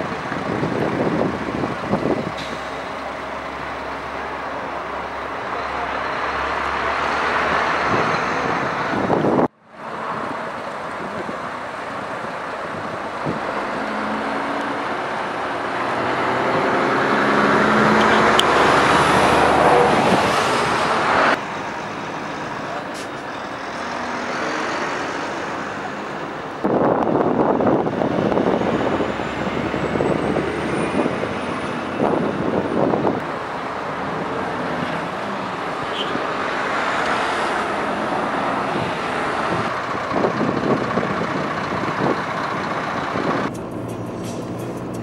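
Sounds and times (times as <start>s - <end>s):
highway traffic passing: 0.0s - 45.0s.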